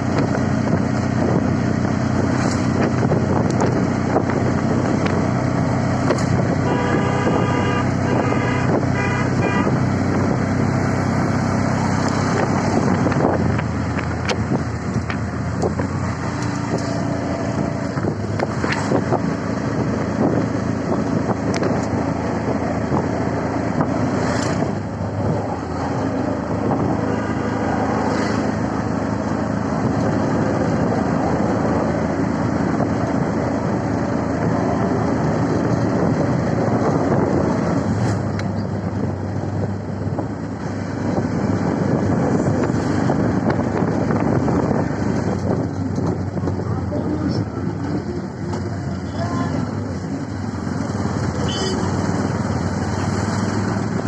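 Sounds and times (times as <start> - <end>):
auto-rickshaw engine droning: 0.0 - 54.0
road and wind noise: 0.0 - 54.0.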